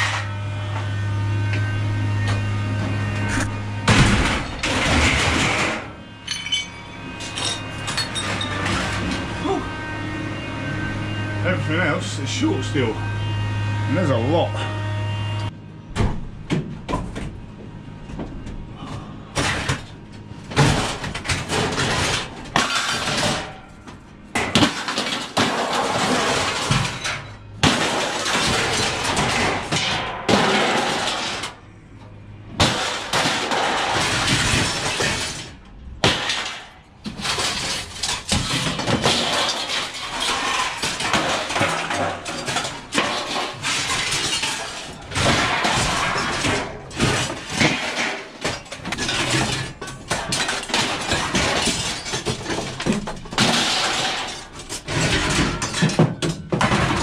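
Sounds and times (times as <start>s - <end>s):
scrap steel crashing onto metal: 3.2s - 14.2s, 19.3s - 31.6s, 32.5s - 57.0s.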